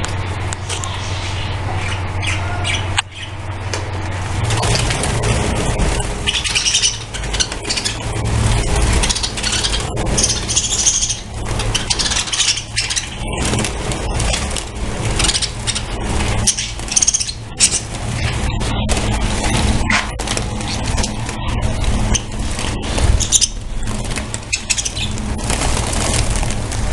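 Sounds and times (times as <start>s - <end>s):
steady low rumble: 0.0s - 26.9s
budgerigars chattering and squawking: 0.6s - 3.4s, 4.4s - 26.2s.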